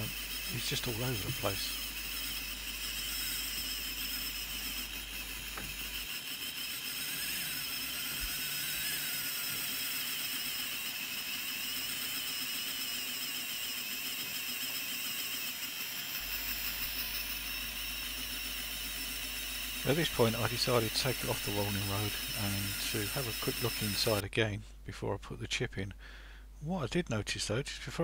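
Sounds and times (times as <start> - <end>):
model locomotive motor whining: 0.0 - 24.2.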